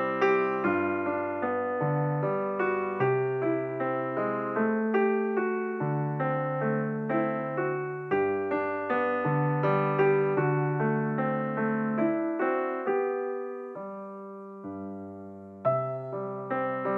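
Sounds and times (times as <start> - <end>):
gentle piano melody: 0.0 - 16.9.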